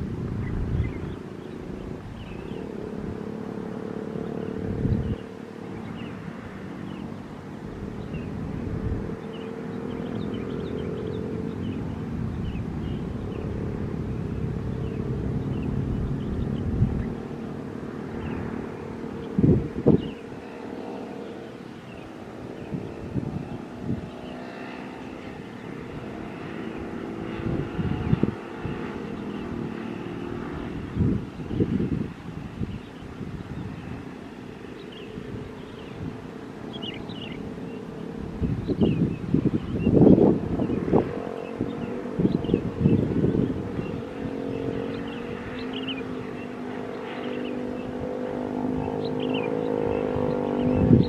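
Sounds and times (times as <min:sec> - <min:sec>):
jet engines whining: 0:00.0 - 0:51.0
wind buffeting microphone: 0:00.0 - 0:51.0.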